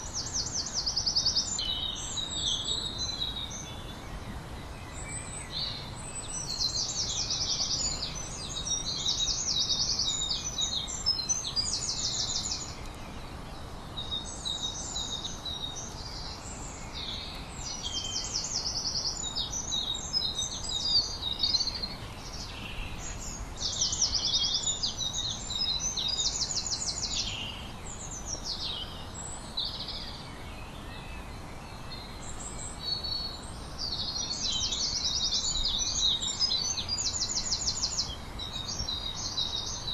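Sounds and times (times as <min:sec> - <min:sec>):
low background noise: 0:00.0 - 0:39.9
songbird chirping and trilling: 0:00.0 - 0:39.9.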